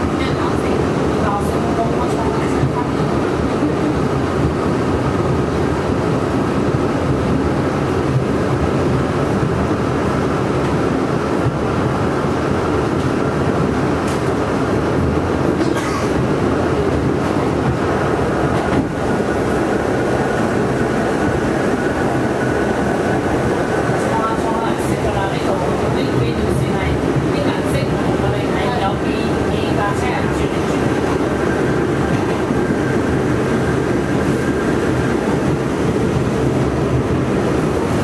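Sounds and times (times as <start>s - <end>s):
subway car wheels rumbling: 0.0s - 38.0s.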